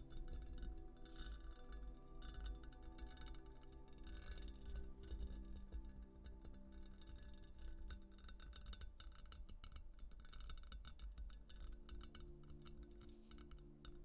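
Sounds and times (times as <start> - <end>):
soft slow background music: 0.0 - 14.0.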